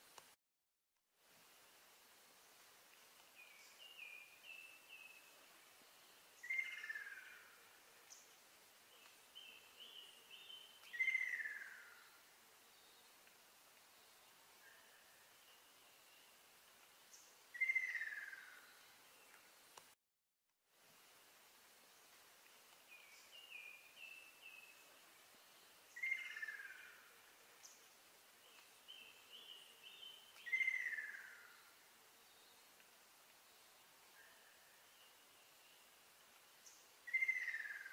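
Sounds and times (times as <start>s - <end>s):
faint background hiss: 0.0s - 0.4s, 1.0s - 20.0s, 20.6s - 37.9s.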